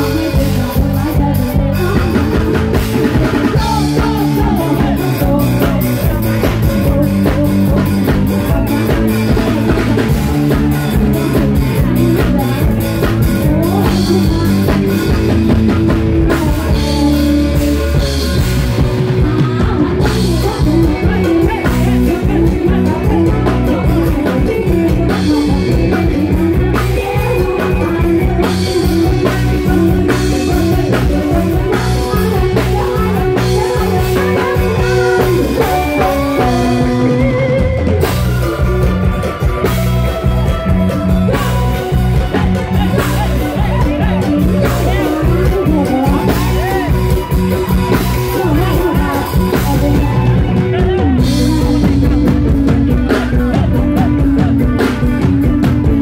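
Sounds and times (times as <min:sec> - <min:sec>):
bass guitar: 0:00.0 - 0:56.0
drum kit: 0:00.0 - 0:56.0
electric guitar: 0:00.0 - 0:56.0
person singing: 0:00.0 - 0:56.0.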